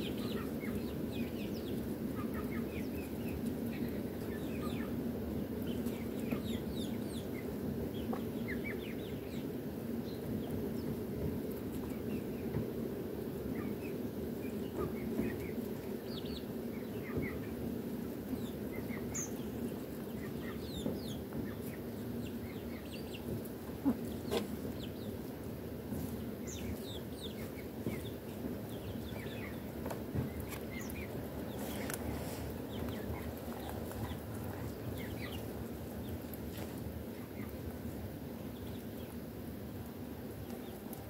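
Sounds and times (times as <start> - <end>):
hens clucking softly: 0.0 - 9.6, 10.2 - 41.0
low background noise: 0.0 - 41.0.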